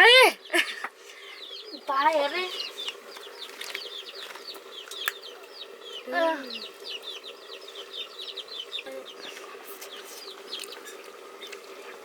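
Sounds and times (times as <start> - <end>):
chickens cheeping: 0.0 - 12.0.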